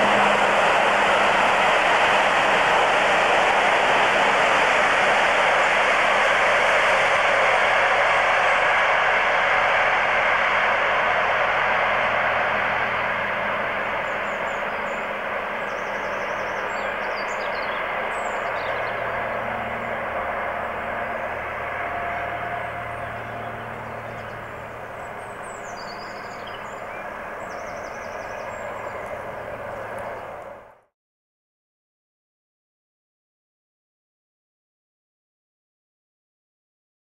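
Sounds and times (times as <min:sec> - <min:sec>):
faint low engine drone: 0:00.0 - 0:30.9
train wheels rushing on rail: 0:00.0 - 0:30.9.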